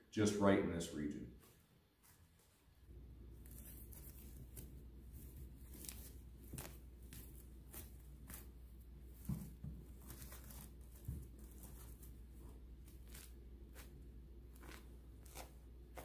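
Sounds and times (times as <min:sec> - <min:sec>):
steady low hum: 0:00.5 - 0:16.0.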